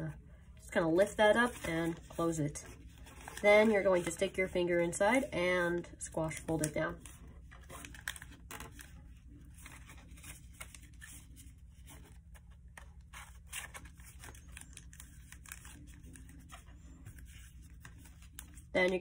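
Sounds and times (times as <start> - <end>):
paper crinkling and rustling: 1.3 - 19.0.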